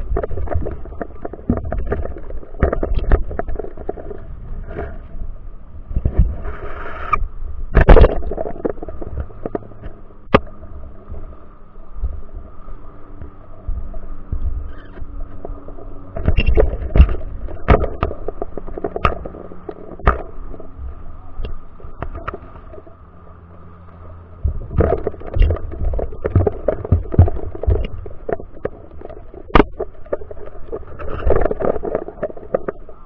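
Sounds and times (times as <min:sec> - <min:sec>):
underwater knocks and clicks: 0:00.0 - 0:05.0, 0:07.1 - 0:11.3, 0:12.0 - 0:23.0, 0:24.4 - 0:33.0
faint steady hum: 0:00.0 - 0:33.0
low underwater rumble: 0:00.0 - 0:33.0.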